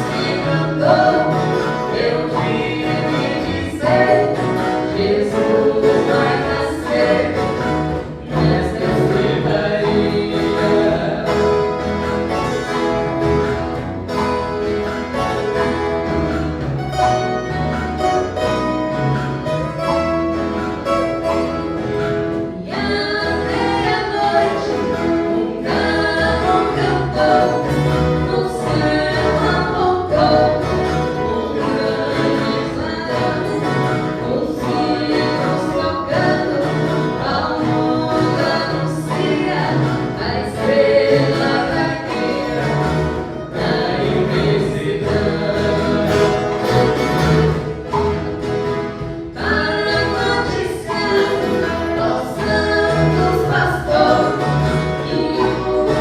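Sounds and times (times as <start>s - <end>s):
group of voices singing: 0.0s - 16.6s, 21.7s - 56.0s
strummed and plucked violas: 0.0s - 56.0s.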